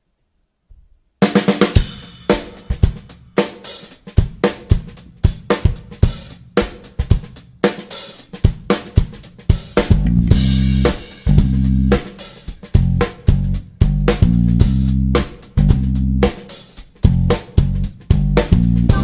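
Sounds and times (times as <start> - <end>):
drum kit playing: 1.2 - 19.0.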